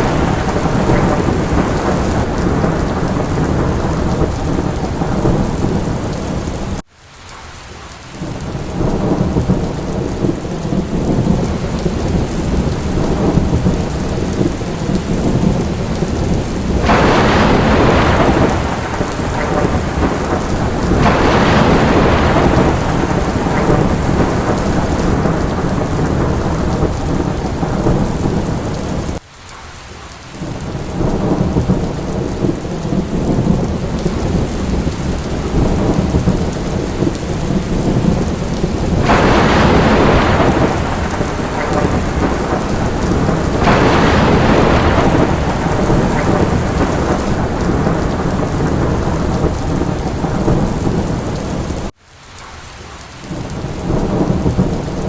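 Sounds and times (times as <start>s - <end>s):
thunder rumbling: 0.0s - 6.8s, 8.2s - 29.2s, 30.4s - 51.9s, 53.3s - 55.0s
heavy rain: 0.0s - 55.0s.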